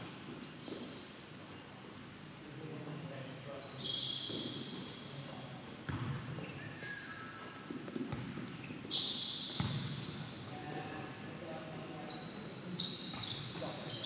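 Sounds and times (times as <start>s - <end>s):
sneakers squeaking: 0.0s - 1.6s, 3.6s - 14.0s.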